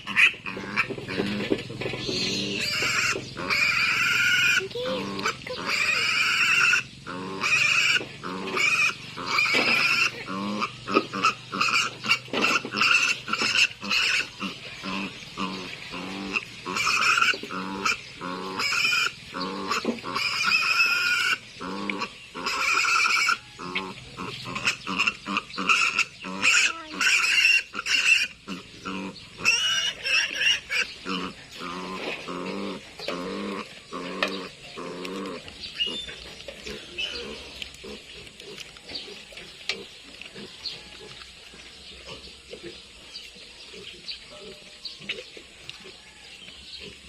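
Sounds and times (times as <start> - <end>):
piglets squealing: 0.0 - 39.5.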